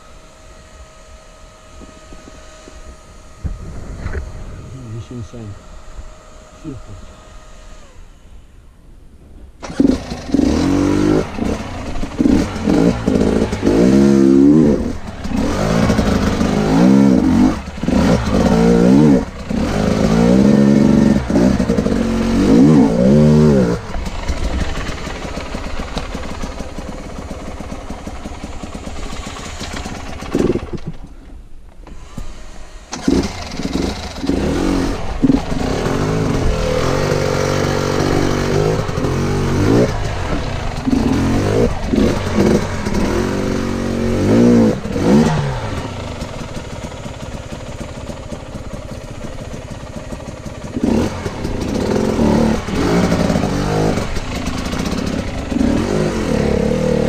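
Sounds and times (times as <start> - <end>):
dirt bike engine revving: 0.0 - 8.5, 9.6 - 31.2, 31.8 - 57.0.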